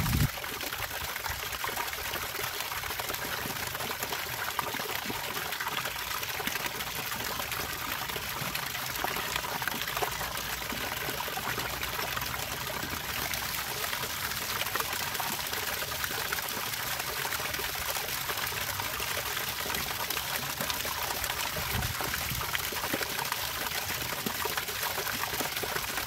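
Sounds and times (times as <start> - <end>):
water trickling and splashing: 0.0 - 26.0.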